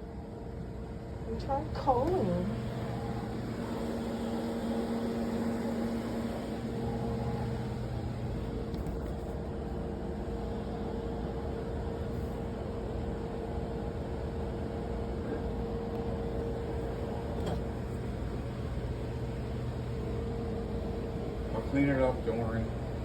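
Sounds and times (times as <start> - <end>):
steady motor hum: 0.0 - 23.0.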